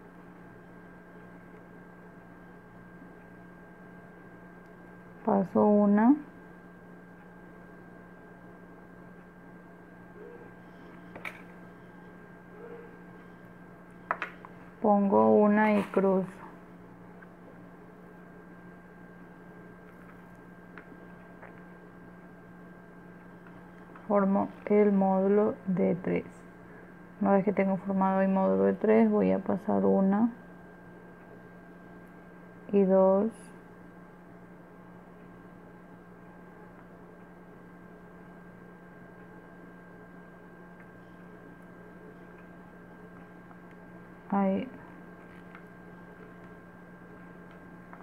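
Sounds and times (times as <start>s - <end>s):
faint high whine: 0.0s - 48.0s
low electrical hum: 0.0s - 48.0s.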